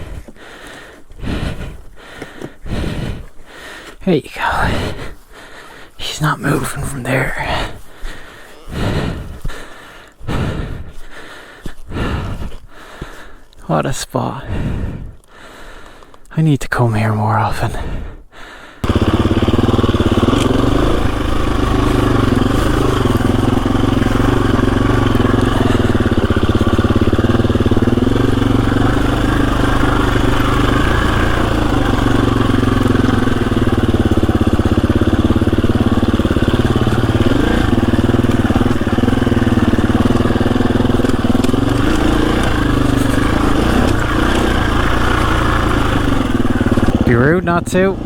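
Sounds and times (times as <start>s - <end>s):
dirt bike engine running: 0.0s - 15.9s, 18.8s - 48.0s.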